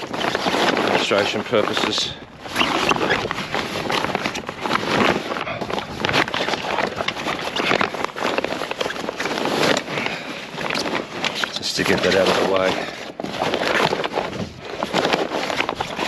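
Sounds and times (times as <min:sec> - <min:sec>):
sail cloth rustling and crinkling: 0:00.0 - 0:16.0.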